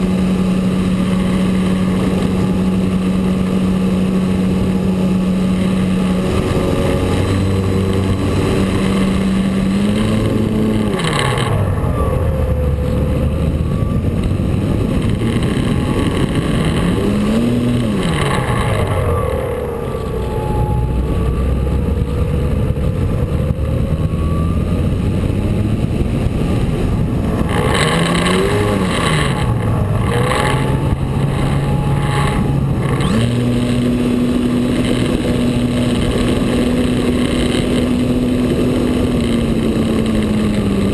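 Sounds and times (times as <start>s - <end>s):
model plane motor and propeller: 0.0s - 40.9s
wind rush over microphone: 0.0s - 40.9s.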